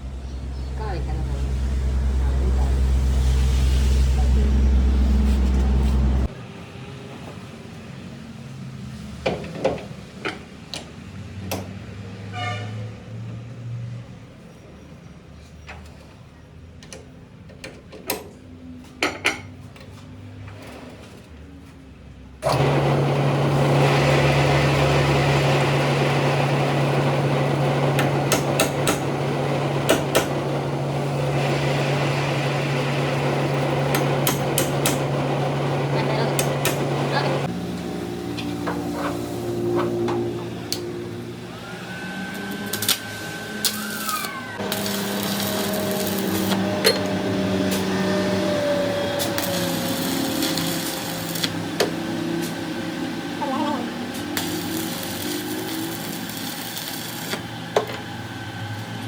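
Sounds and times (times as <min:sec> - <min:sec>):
workshop machine humming: 0:00.0 - 0:12.1, 0:22.0 - 0:59.0.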